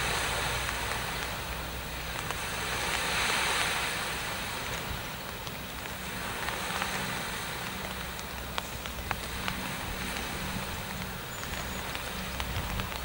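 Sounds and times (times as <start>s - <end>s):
light drizzle hiss: 0.0s - 13.0s
low steady hum: 0.0s - 13.0s
raindrop ticks: 0.0s - 13.0s.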